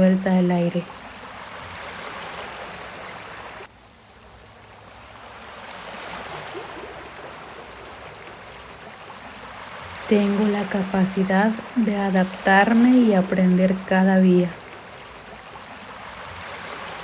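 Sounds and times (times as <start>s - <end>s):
sea waves surf: 0.0s - 17.0s.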